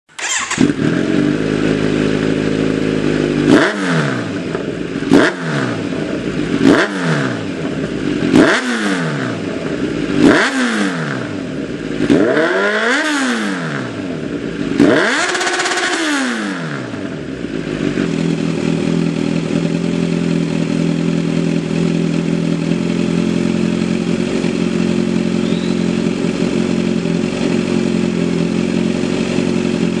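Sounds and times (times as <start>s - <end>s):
motorcycle engine revving: 0.1s - 30.0s
motorcycle engine idling: 0.2s - 12.2s, 13.7s - 16.0s, 16.7s - 30.0s.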